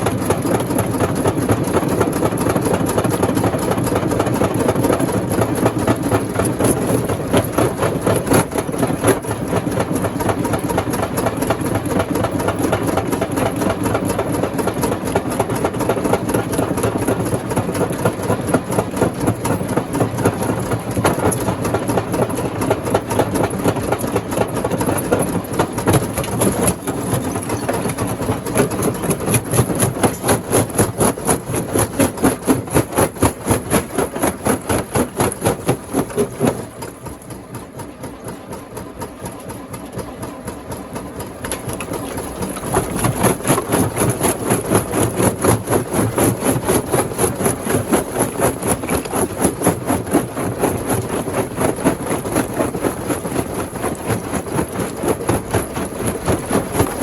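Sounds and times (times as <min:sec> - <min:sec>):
rock crusher engine: 0:00.0 - 0:57.0.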